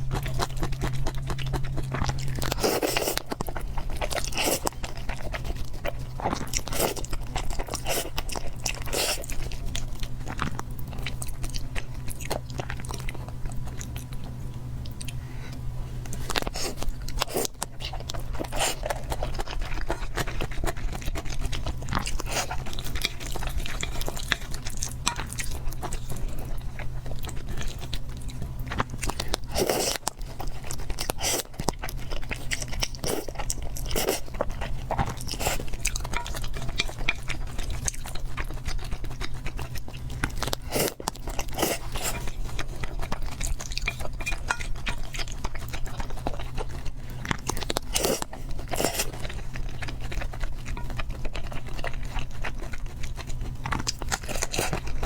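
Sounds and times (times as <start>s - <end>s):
person chewing cake: 0.0s - 55.0s
steady low hum: 0.0s - 55.0s.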